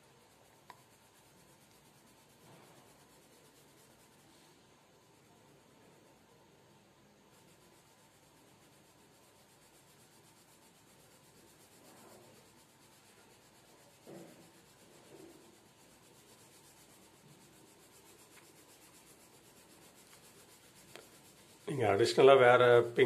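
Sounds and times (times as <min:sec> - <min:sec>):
pencil shading on paper: 0:00.0 - 0:06.2, 0:07.0 - 0:22.8.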